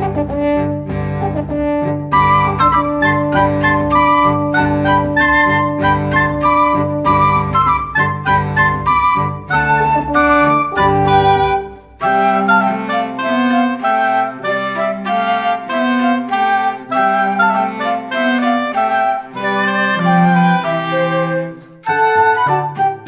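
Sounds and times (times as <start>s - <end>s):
instrumental background music: 0.0s - 23.0s.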